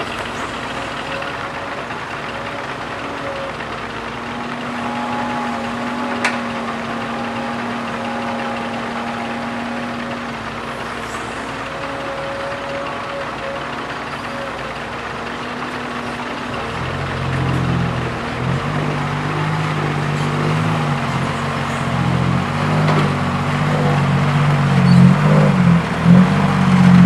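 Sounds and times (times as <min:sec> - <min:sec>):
dump truck engine running: 0:00.0 - 0:27.0
excavator diesel engine running: 0:00.0 - 0:27.0
held tones: 0:00.0 - 0:27.0.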